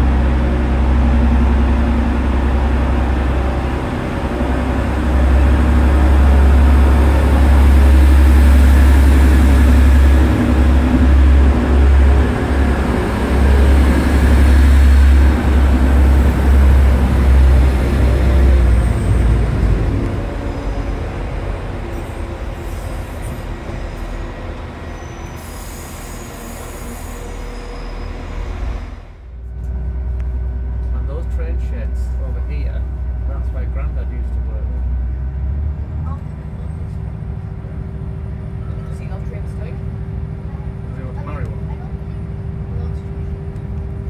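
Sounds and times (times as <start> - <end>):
train rumbling through station: 0.0 - 44.0.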